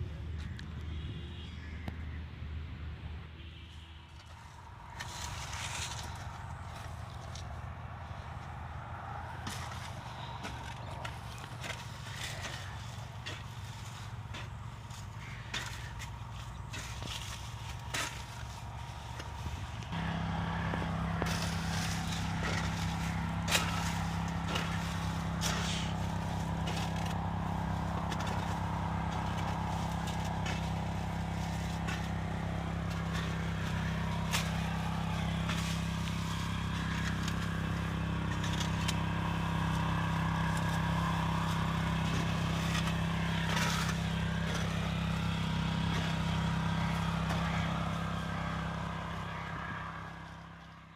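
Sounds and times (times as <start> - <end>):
small tractor engine running: 4.2 - 50.9.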